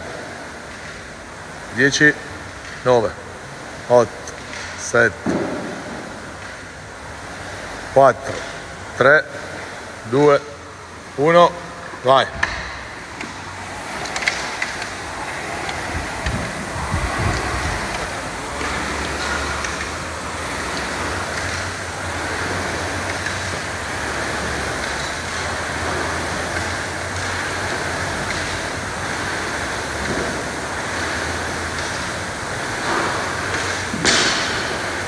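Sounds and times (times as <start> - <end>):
rowing machine flywheel whooshing: 0.0 - 35.0.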